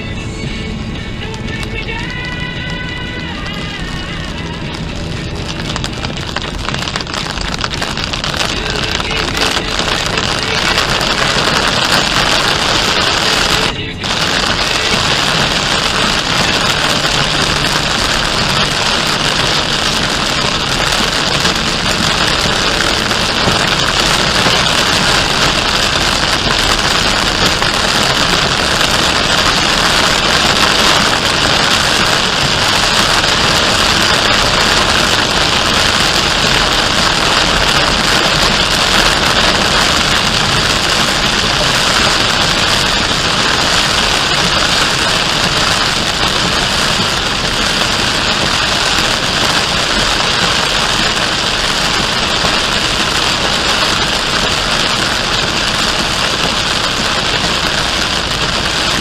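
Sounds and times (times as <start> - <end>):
heavy rain on a car: 0.0 - 59.0
tyre spray and road noise: 1.6 - 59.0.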